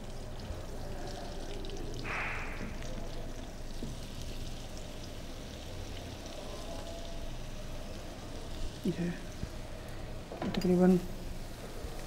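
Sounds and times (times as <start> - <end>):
butter and flour sizzling: 0.0 - 12.0.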